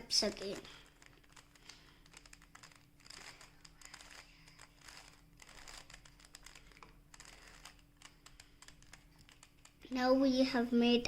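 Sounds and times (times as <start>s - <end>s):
plastic puzzle cube clicking: 0.3s - 9.8s.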